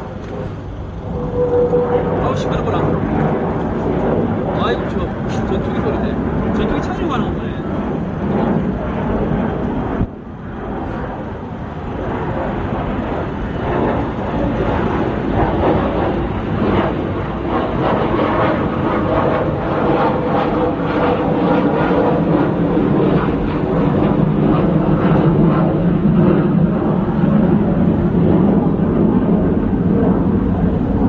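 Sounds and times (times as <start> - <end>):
jet airliner engine rumble: 0.0 - 31.0.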